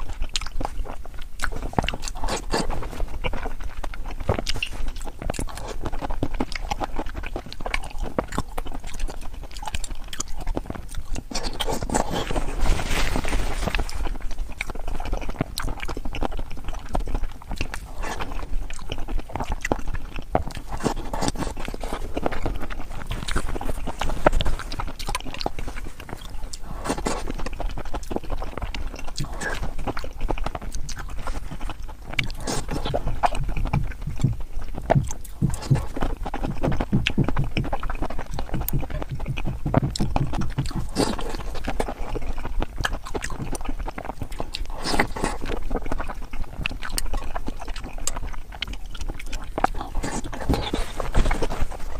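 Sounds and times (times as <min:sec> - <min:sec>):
person chewing and smacking food: 0:00.0 - 0:51.9.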